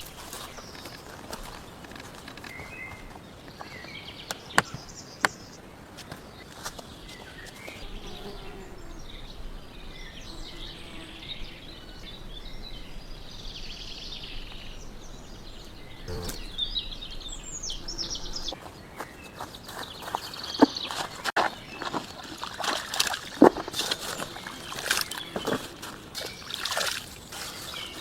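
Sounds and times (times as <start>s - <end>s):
birds chirping and singing: 2.4s - 28.0s.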